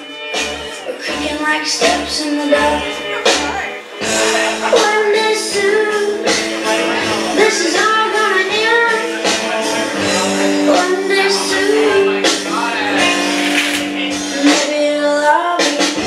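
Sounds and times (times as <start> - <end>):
song over sound system: 0.0 - 16.0.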